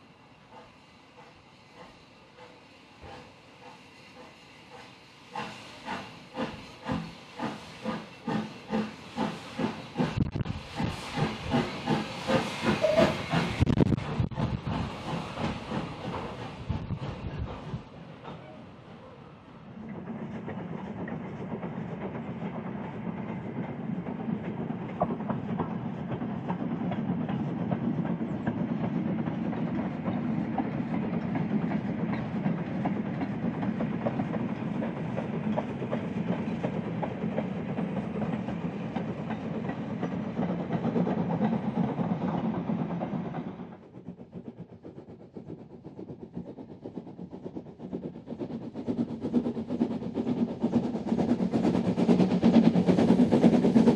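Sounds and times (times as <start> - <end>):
steam train running on track: 0.0 - 53.9.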